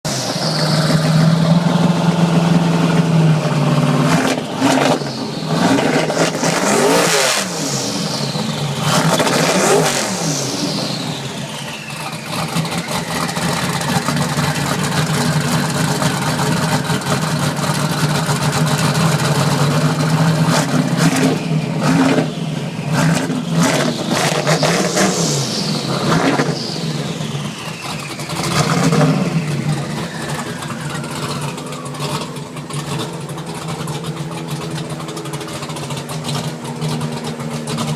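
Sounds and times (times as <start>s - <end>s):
pickup engine revving: 0.1s - 37.9s.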